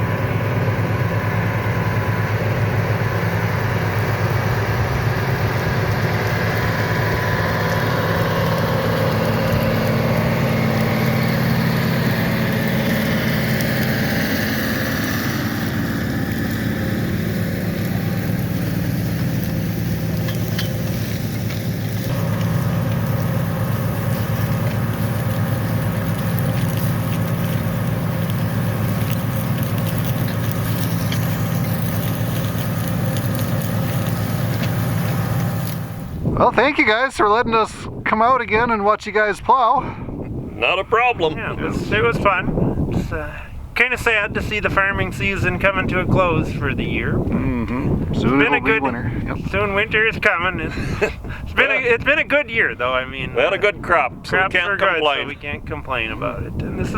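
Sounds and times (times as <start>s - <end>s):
tractor diesel engine running: 0.0s - 38.1s, 40.0s - 56.9s.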